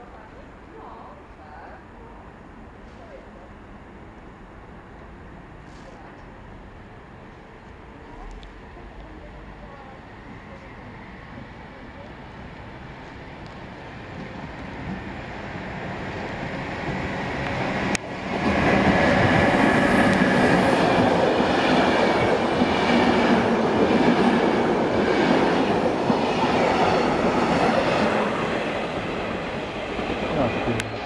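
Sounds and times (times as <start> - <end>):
passenger train coaches rolling past: 0.0 - 31.0.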